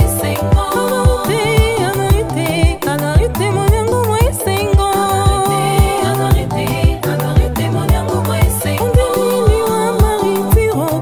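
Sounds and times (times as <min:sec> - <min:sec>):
kick drum: 0:00.0 - 0:10.8
gospel song with dance beat: 0:00.0 - 0:11.0.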